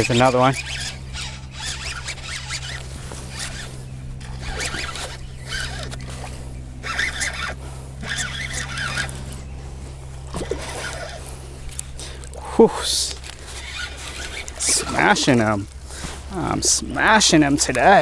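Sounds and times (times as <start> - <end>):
fishing reel cranking whirr: 0.0 - 18.0.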